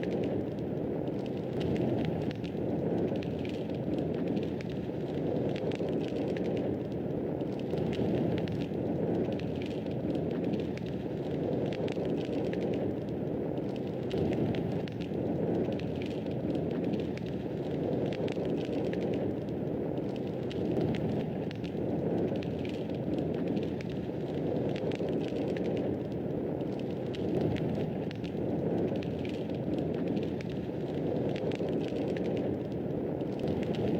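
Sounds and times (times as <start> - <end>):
low rush of flames: 0.0 - 33.9
wood crackling and popping: 0.0 - 33.9.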